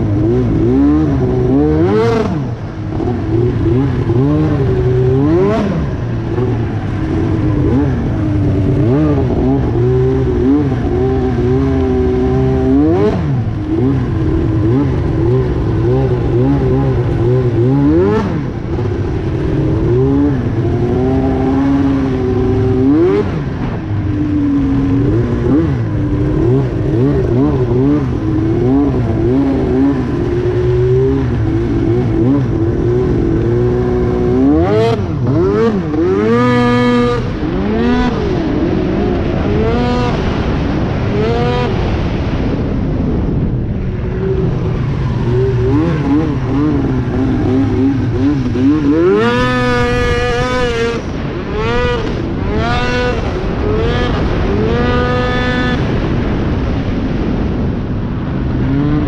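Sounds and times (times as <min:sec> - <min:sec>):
snowmobile engine revving: 0:00.0 - 0:57.5.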